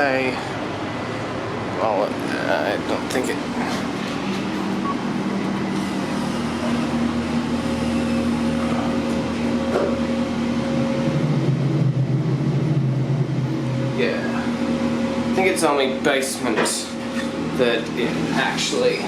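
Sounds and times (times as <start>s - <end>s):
lift running hum: 0.0s - 19.0s.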